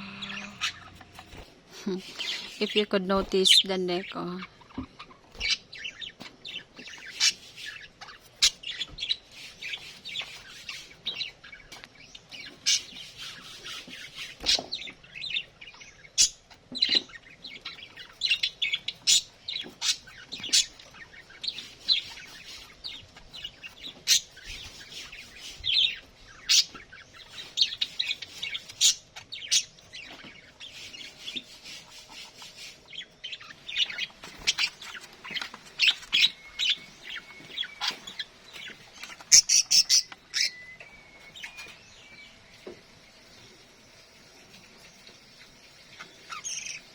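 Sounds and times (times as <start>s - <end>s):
budgerigars chirping: 0.0s - 1.4s, 2.0s - 46.9s.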